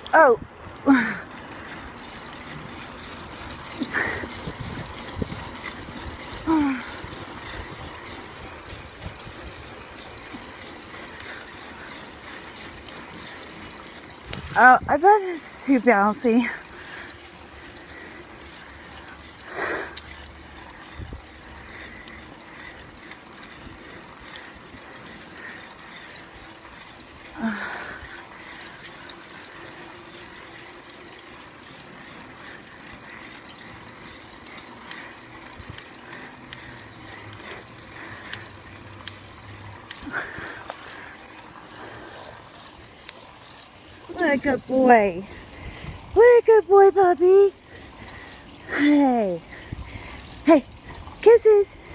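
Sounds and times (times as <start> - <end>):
bicycle freewheel clicking: 0.0 - 51.9
mountain bike rolling: 0.0 - 51.9.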